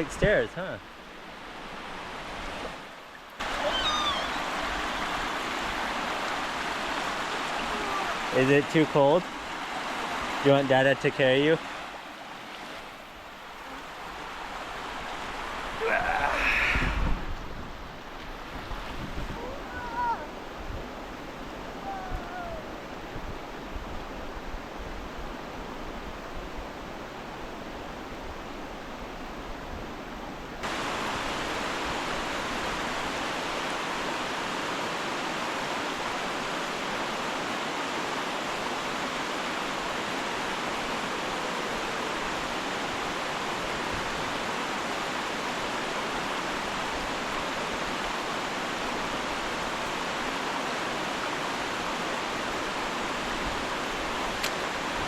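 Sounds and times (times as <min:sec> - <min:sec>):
waterfall rushing: 0:00.0 - 0:17.3, 0:19.3 - 0:23.1, 0:30.6 - 0:55.0.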